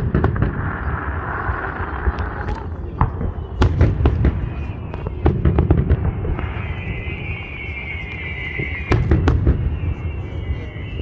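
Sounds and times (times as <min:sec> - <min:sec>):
firework whistle: 0:00.0 - 0:11.0
fireworks bangs: 0:00.0 - 0:11.0
fireworks crackling: 0:00.0 - 0:11.0.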